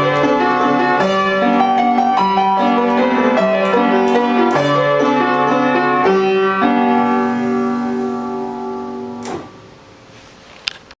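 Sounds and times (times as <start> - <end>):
piano waltz: 0.0 - 10.0.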